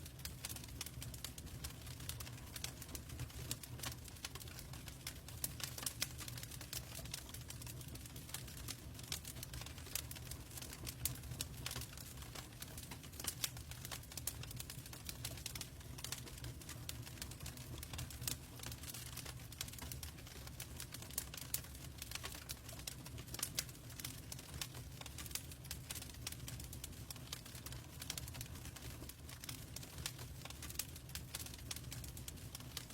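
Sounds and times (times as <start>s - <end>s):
logs crackling and popping: 0.0s - 32.9s
low rumble of flames: 0.0s - 32.9s.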